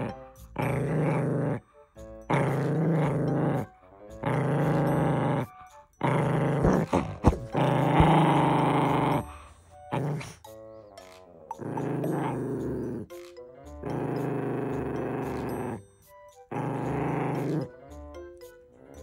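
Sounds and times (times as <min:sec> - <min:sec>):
dog growling: 0:00.0 - 0:01.7, 0:02.3 - 0:10.4, 0:11.2 - 0:13.2, 0:13.8 - 0:15.8, 0:16.5 - 0:17.9.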